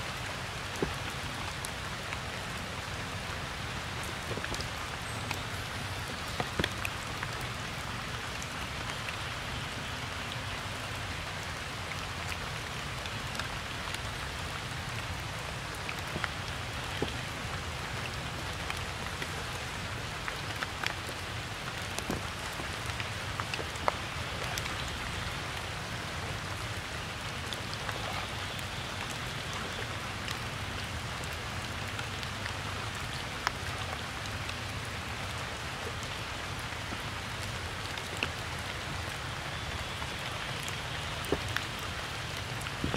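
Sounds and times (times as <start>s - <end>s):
rain on wet ground: 0.0s - 42.9s.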